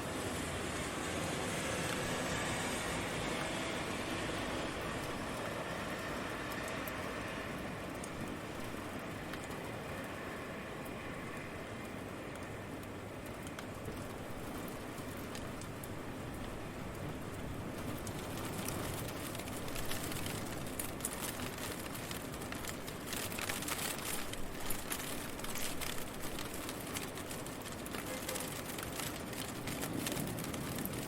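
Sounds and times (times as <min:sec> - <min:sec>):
raindrops pattering on a surface: 0:00.0 - 0:31.0
steady rain: 0:00.0 - 0:31.0.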